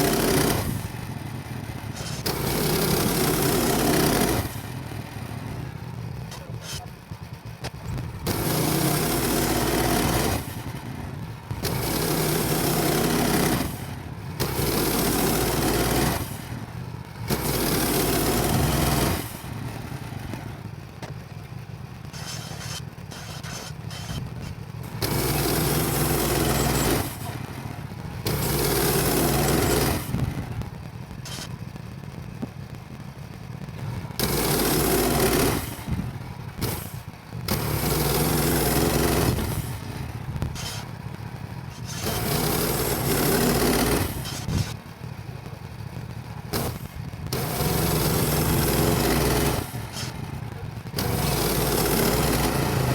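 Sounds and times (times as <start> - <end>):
bandsaw mill engine sawing wood: 0.0 - 31.6, 33.9 - 44.8, 46.4 - 52.9.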